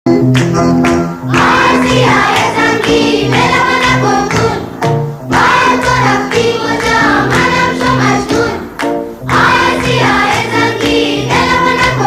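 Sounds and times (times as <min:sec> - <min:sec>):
choir singing with accompaniment: 0:01.2 - 0:12.0.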